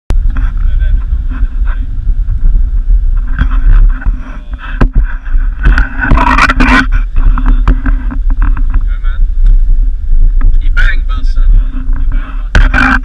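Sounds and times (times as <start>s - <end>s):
road and engine rumble: 0.1s - 13.0s.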